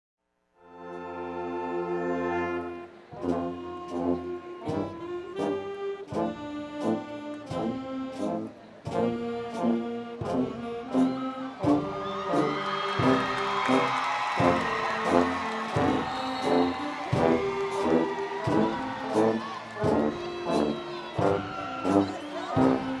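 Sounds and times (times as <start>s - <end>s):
brass chords: 0.6s - 23.0s.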